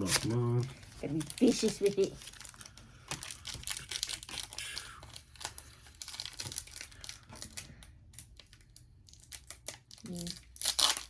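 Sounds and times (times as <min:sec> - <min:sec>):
foil wrappers crinkling and tearing: 0:00.0 - 0:11.0.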